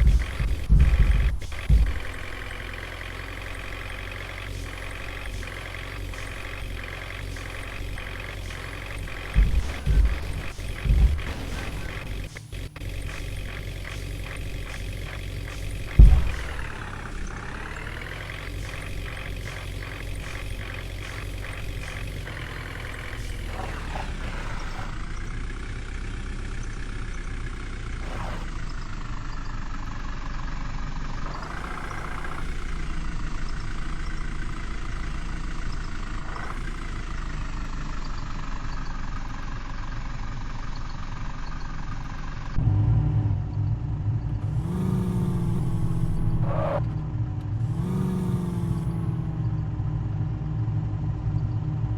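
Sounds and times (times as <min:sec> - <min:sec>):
truck engine running: 0:00.0 - 0:51.9.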